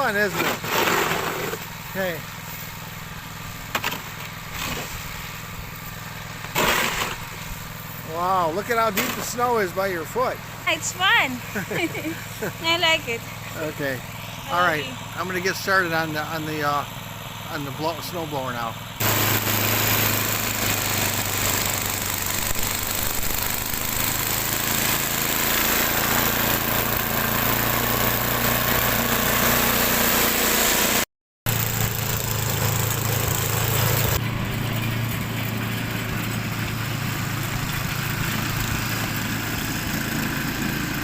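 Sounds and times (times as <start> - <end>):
snow blower engine running: 0.0 - 41.0.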